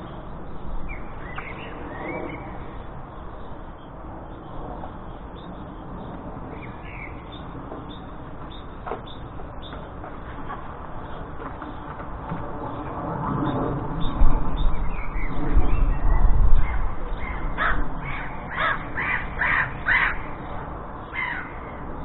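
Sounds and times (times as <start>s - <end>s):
jackdaws and gulls calling: 0.0s - 22.0s
steady low rumble: 0.0s - 22.0s.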